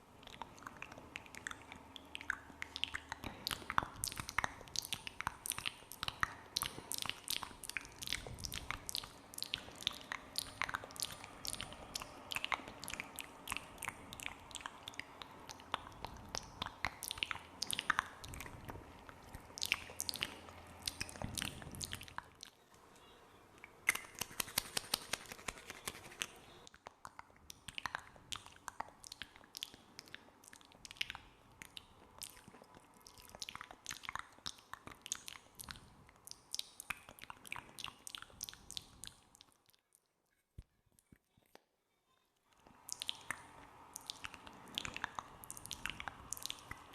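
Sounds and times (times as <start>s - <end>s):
wet mouth clicks and smacks: 0.2s - 22.6s, 23.6s - 40.1s, 42.7s - 46.9s.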